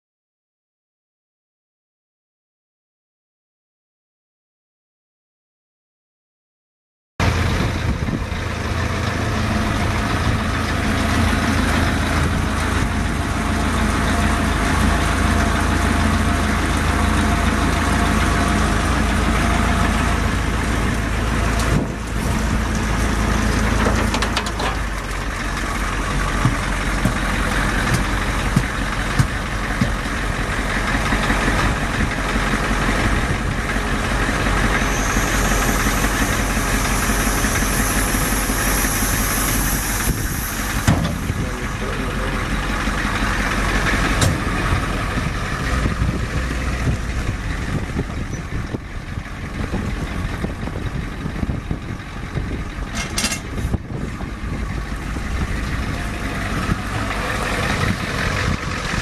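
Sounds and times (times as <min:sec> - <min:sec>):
diesel engine idling: 0:07.2 - 0:59.0.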